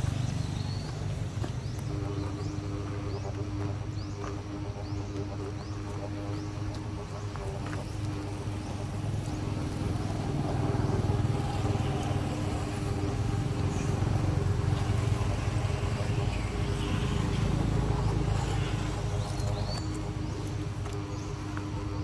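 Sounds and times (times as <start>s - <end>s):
motor engine running: 0.0s - 22.0s.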